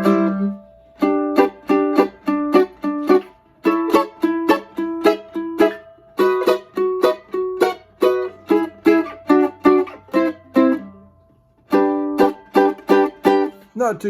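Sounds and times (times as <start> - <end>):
mandolin chop chords: 0.0 - 14.0.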